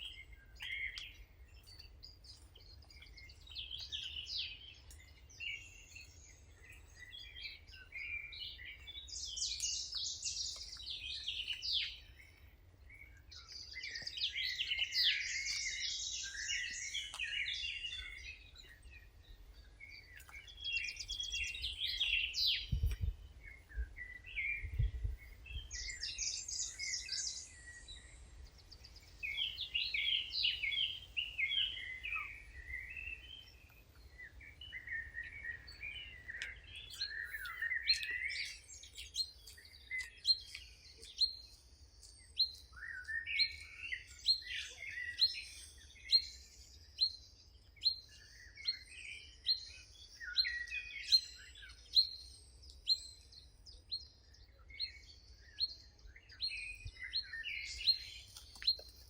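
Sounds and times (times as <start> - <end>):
songbirds singing in chorus: 0.0 - 59.0.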